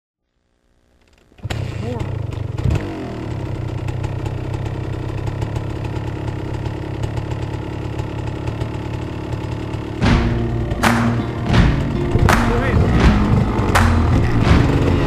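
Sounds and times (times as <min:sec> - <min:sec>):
dirt bike engine idling: 0:00.9 - 0:15.0.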